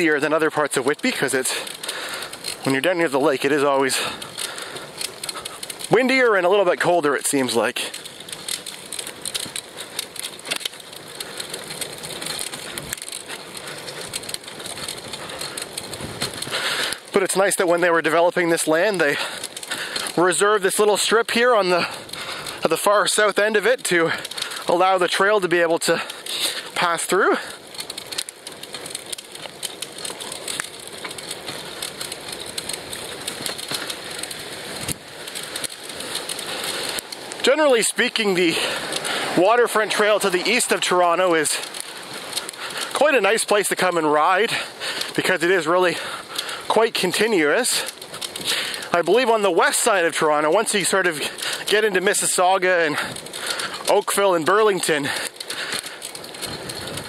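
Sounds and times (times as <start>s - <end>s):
bicycle tyres crunching on gravel: 0.0s - 57.0s.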